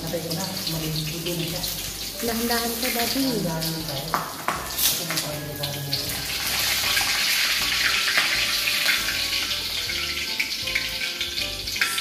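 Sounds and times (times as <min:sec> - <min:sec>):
hot oil sizzling in a wok: 0:00.0 - 0:12.0.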